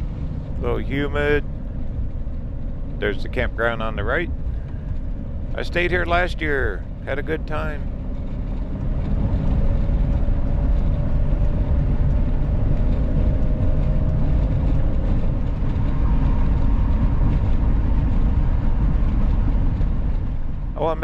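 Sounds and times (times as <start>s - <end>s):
road and engine noise in vehicle: 0.0s - 21.0s.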